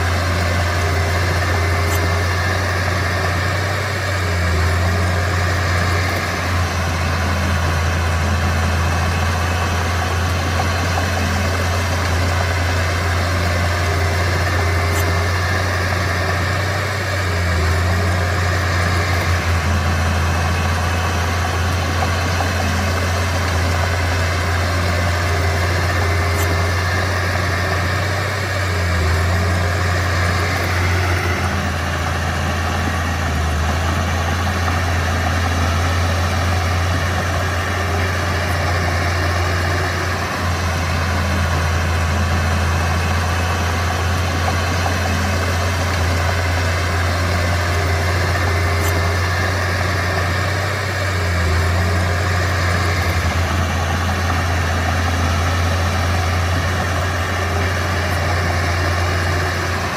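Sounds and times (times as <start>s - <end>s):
bulldozer engine droning: 0.0s - 59.9s.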